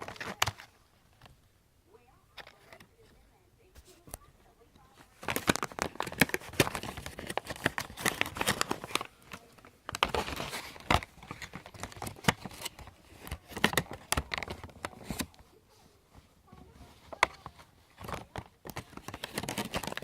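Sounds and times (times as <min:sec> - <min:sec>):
packaging crinkling and rustling: 0:00.0 - 0:01.4, 0:03.8 - 0:20.0.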